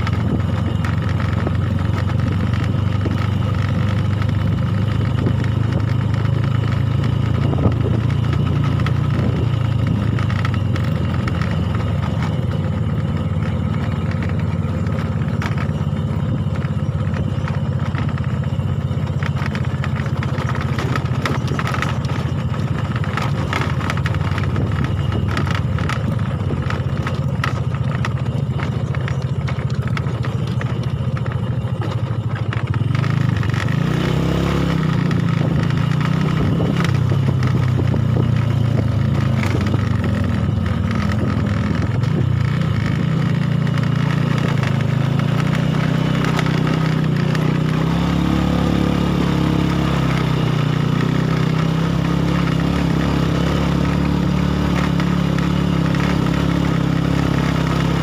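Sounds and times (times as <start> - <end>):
knocks and rattles over bumps: 0.0 - 58.0
motorcycle engine running: 0.0 - 58.0.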